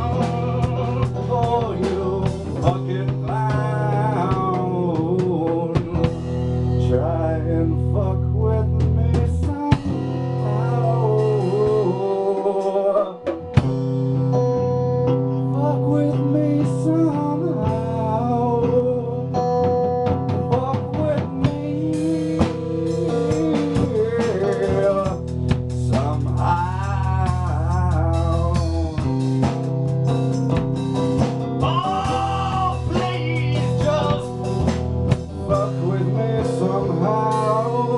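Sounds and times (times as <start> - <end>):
man singing into a microphone: 0.0 - 13.6, 15.4 - 19.5, 20.3 - 29.4, 31.6 - 37.9
bass guitar: 0.0 - 37.9
drum kit: 0.0 - 37.9
electric guitar: 0.0 - 37.9.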